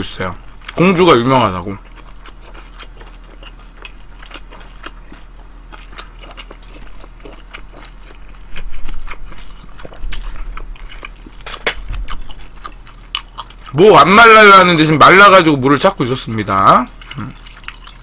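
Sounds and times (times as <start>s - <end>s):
wet crackly chewing: 0.0s - 13.8s, 14.6s - 18.0s.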